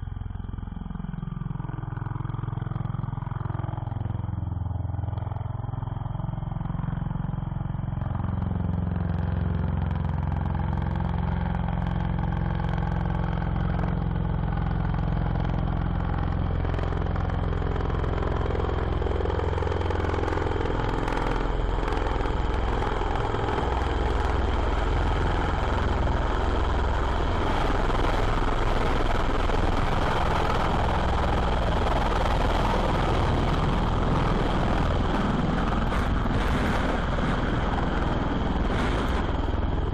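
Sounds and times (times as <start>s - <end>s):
engine running with low rumble: 0.0s - 39.9s.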